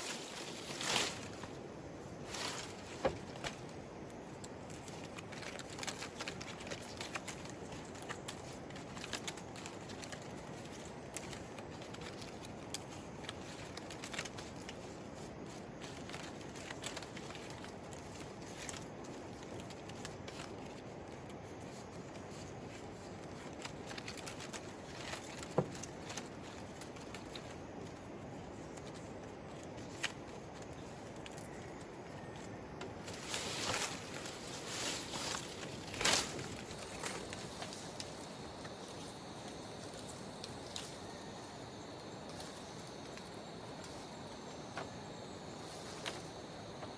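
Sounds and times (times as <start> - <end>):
background hiss: 0.0 - 46.9.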